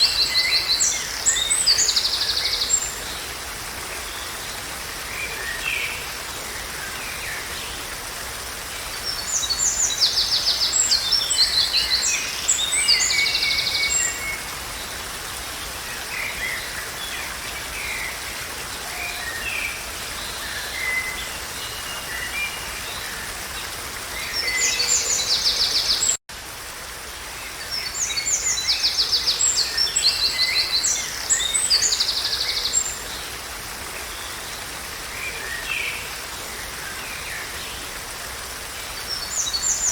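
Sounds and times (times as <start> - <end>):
songbirds singing: 0.0 - 26.2, 27.3 - 39.9
running water: 0.0 - 39.9.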